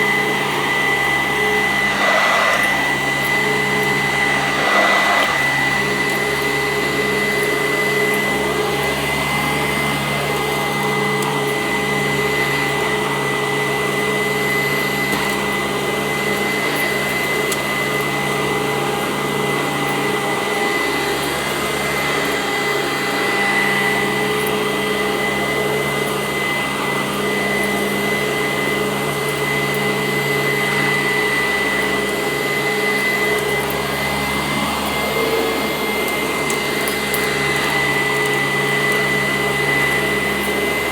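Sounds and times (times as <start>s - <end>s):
upright vacuum running: 0.0s - 40.9s.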